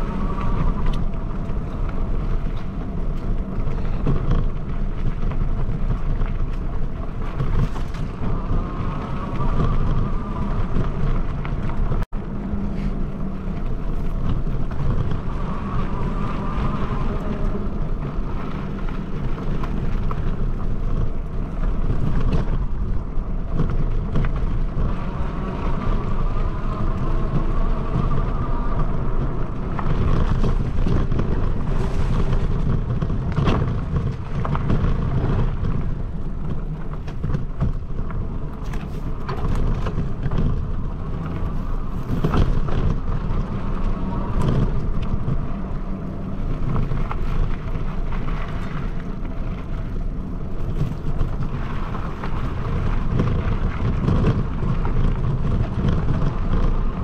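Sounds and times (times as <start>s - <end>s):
bike tyres rumbling on dirt: 0.0s - 57.0s
wind buffeting microphone: 0.0s - 57.0s.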